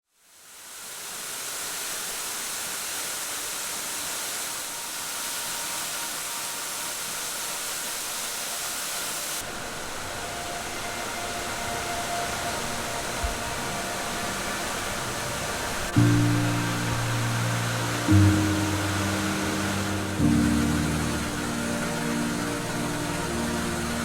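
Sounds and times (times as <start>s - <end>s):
waterfall rushing: 0.4s - 24.0s.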